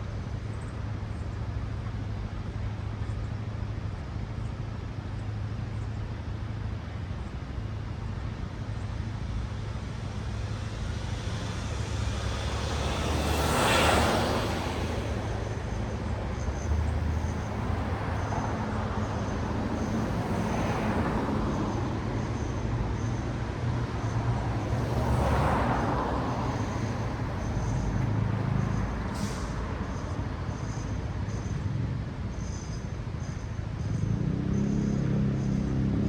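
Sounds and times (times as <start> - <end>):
low traffic rumble: 0.0 - 36.0
vehicles passing: 6.4 - 32.4, 33.0 - 36.0.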